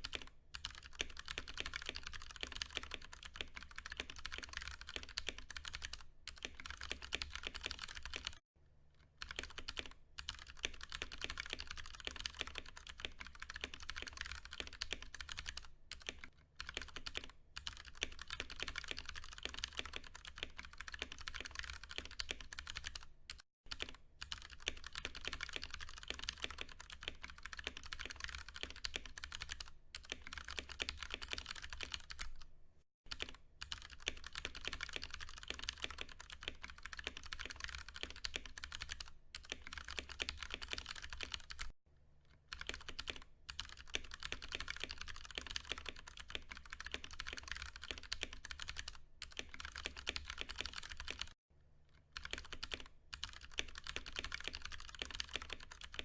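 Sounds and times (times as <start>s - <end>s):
typing on mechanical keyboard: 0.0s - 8.4s, 9.2s - 32.5s, 33.1s - 41.8s, 42.5s - 51.4s, 52.2s - 56.0s.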